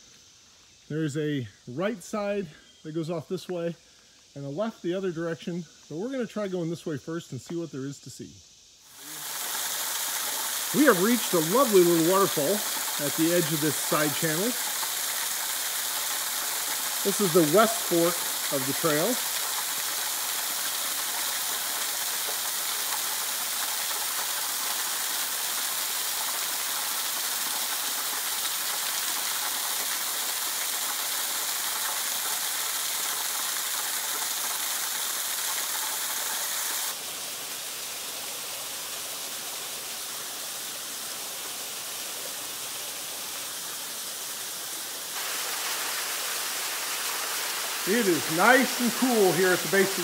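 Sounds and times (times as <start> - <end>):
small waterfall splashing on stone: 8.9 - 50.0.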